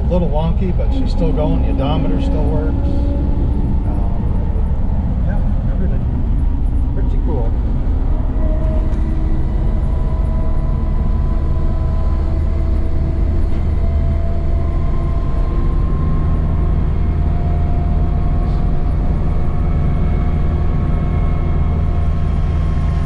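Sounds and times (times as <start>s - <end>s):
car engine drone: 0.0s - 23.0s.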